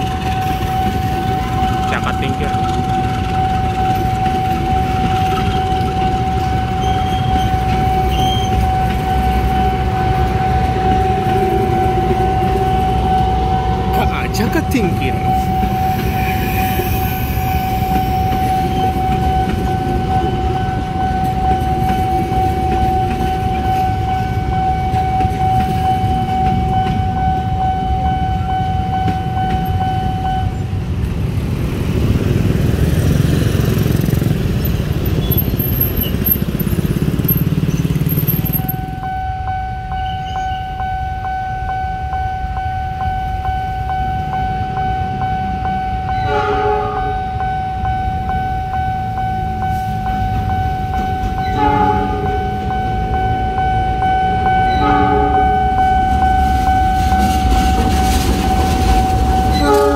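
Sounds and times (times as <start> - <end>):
level crossing warning tone: 0.0 - 30.9, 35.6 - 59.9
diesel locomotive approaching: 0.0 - 59.9
train coaches rumbling over rails: 0.0 - 59.9.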